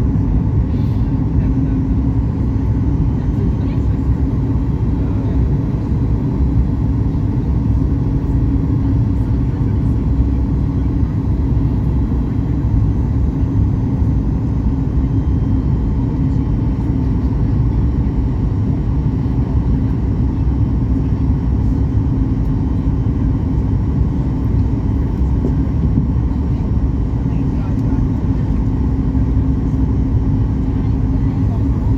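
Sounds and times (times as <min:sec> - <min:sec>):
airliner cabin rumble: 0:00.0 - 0:31.9.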